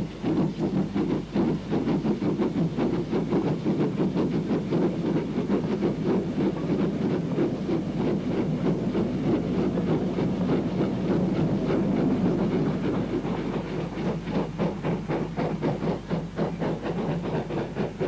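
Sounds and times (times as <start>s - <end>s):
locomotive exhaust chuffing: 0.0s - 18.0s
steam locomotive running: 0.0s - 18.0s.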